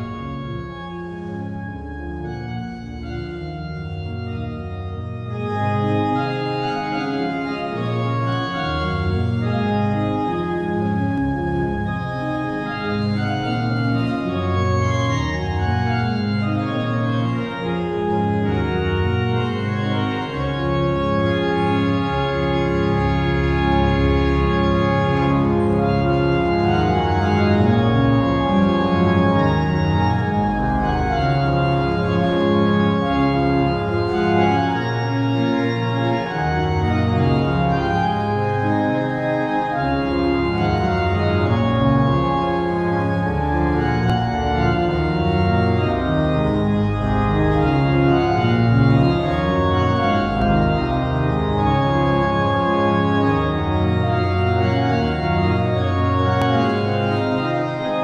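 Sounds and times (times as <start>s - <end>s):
pipe organ playing: 0.0s - 58.0s.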